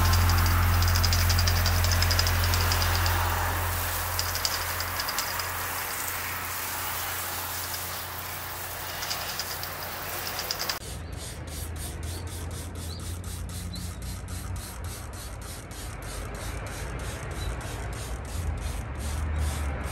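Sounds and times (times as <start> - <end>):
brush scrubbing a tyre: 0.0 - 19.9
pressure sprayer hissing water: 0.0 - 19.9.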